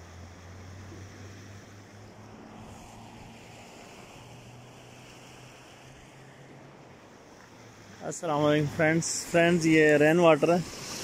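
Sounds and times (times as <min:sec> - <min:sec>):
rushing flood stream: 0:00.0 - 0:11.0.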